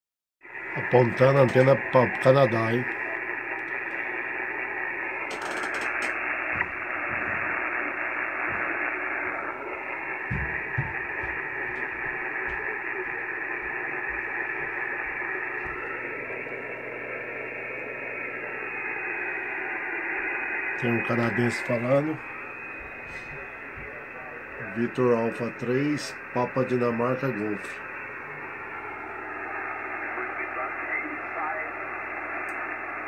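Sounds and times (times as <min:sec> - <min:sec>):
radio static and hiss: 0:00.4 - 0:33.0.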